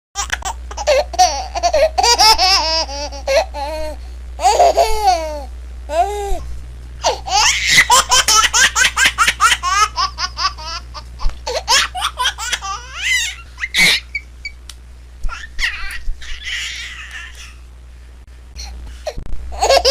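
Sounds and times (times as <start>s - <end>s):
baby giggling and squealing: 0.2s - 6.4s, 7.0s - 14.6s, 15.3s - 17.6s, 19.6s - 19.9s
steady low hum: 0.2s - 19.9s.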